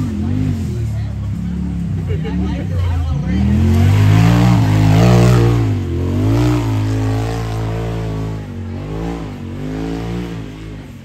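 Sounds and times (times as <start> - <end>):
utility vehicle engine revving: 0.0 - 11.0.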